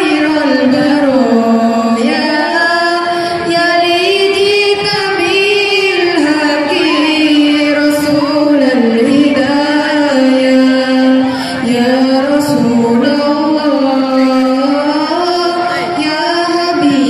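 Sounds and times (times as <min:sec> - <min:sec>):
women singing: 0:00.0 - 0:17.0.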